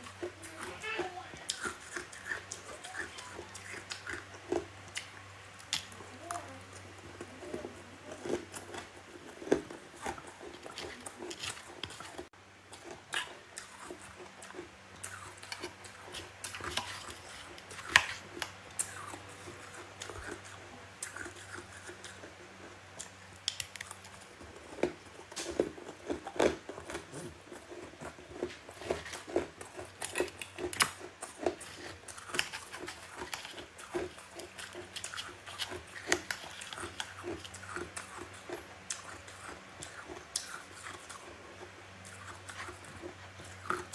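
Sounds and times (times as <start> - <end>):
chewing crunchy frost: 0.0 - 43.9.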